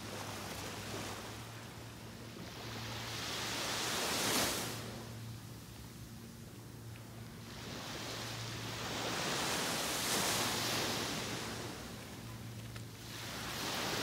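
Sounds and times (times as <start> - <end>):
waves washing up a beach: 0.0 - 14.0.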